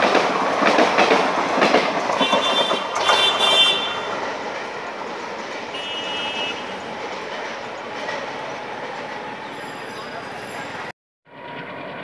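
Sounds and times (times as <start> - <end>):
train rumbling on rails: 0.0 - 10.9.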